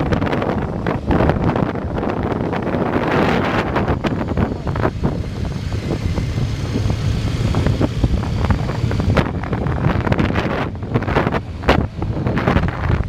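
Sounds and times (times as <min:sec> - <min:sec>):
motorcycle engines droning: 0:00.0 - 0:13.0
wind buffeting microphone: 0:00.0 - 0:13.0.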